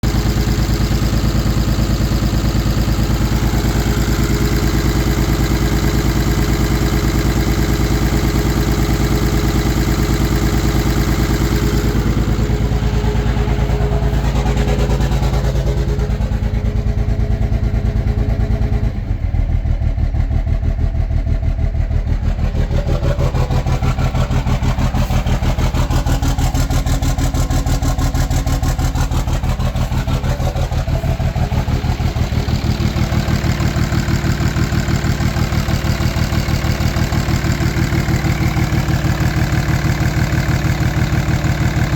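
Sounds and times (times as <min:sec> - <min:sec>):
engine idling with firing pulses: 0:00.0 - 0:41.9.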